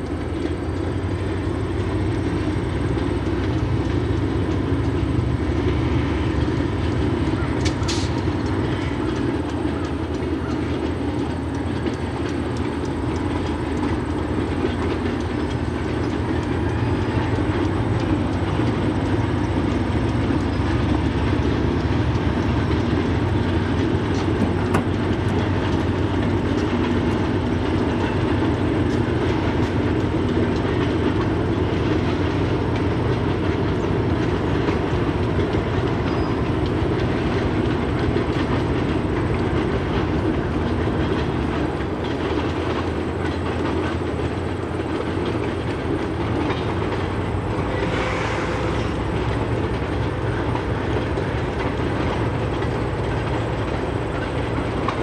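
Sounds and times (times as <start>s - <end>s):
train rumbling: 0.0s - 55.0s
train wheels clacking on rails: 0.0s - 55.0s.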